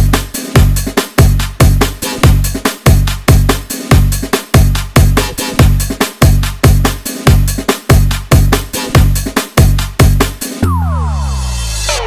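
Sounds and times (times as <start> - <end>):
deep booming bass beats: 0.0 - 12.0
loud electronic dance music: 0.0 - 12.0.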